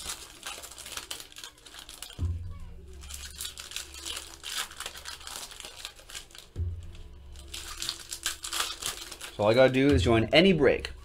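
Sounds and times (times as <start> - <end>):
cards being handled: 0.0 - 10.0
foil wrappers crinkling and tearing: 0.0 - 10.0
low background music tone: 0.0 - 11.0.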